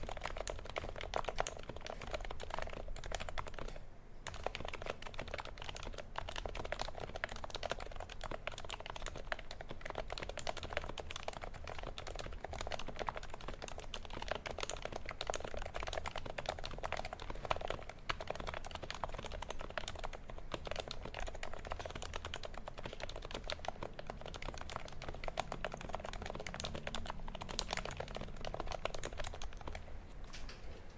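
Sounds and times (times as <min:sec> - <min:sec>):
muted keyboard typing: 0:00.0 - 0:30.9.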